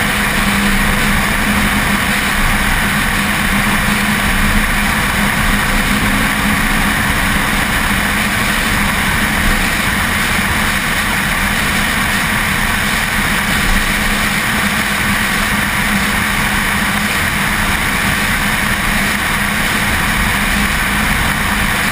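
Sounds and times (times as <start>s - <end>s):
car engine droning: 0.0s - 21.9s
wind and road noise: 0.0s - 21.9s.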